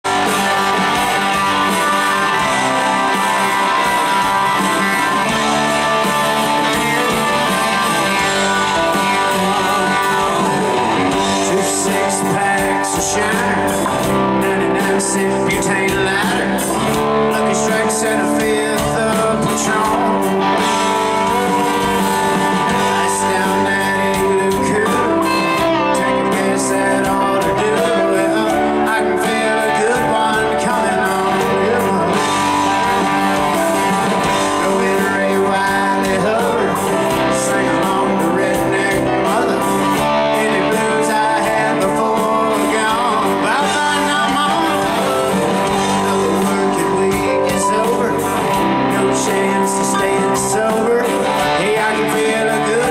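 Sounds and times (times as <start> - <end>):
drums: 0.0 - 52.9
electric guitars: 0.0 - 52.9
lead vocal singing: 0.0 - 52.9
rock band playing live: 0.0 - 52.9
stage piano: 0.0 - 52.9.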